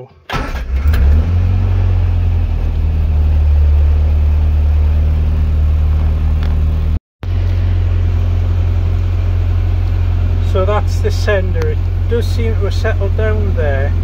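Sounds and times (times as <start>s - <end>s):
engine idling from inside cab: 2.4s - 14.0s.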